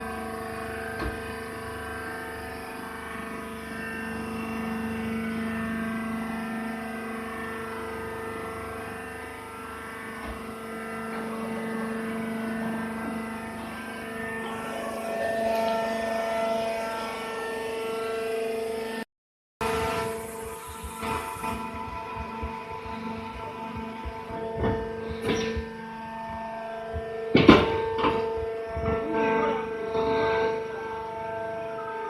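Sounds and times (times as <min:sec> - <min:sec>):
hydraulic press motor hum: 0:00.0 - 0:19.0, 0:19.6 - 0:32.0.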